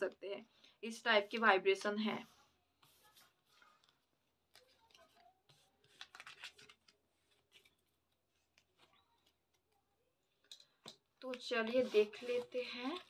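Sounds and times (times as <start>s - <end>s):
cards rustling and scraping: 1.1s - 9.8s, 10.5s - 13.0s.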